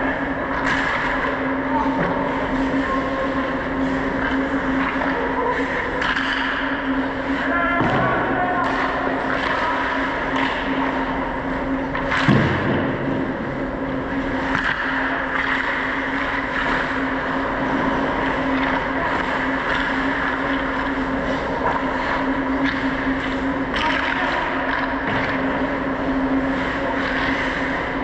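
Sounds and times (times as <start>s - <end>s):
steady low hum: 0.0s - 28.0s
hockey sticks and puck clacking: 0.1s - 28.0s.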